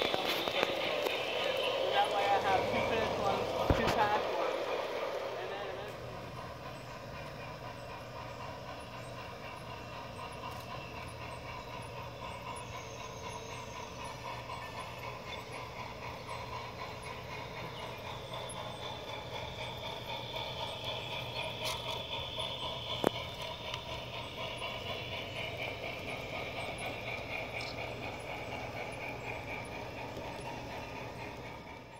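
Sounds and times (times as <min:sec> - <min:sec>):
faint mechanical whine: 0:00.0 - 0:31.9
model train wheels clattering: 0:00.0 - 0:31.9.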